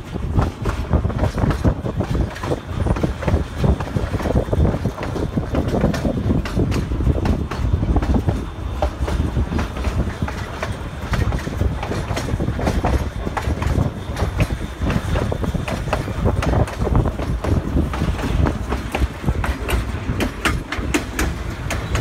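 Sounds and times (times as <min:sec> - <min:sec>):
train rumbling along track: 0:00.0 - 0:22.0
wheels clicking on rail joints: 0:00.0 - 0:22.0.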